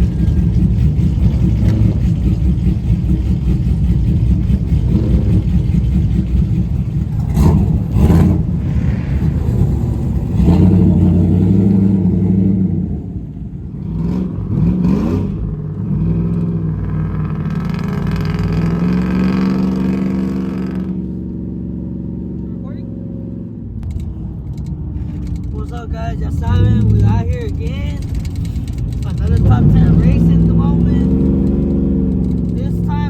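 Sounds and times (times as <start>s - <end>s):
engines revving hard: 0.0s - 23.6s, 25.0s - 33.0s.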